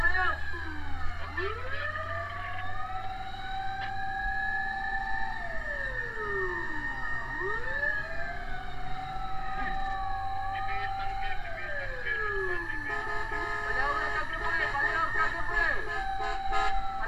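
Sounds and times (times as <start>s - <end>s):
fire truck sirens wailing: 0.0s - 17.0s.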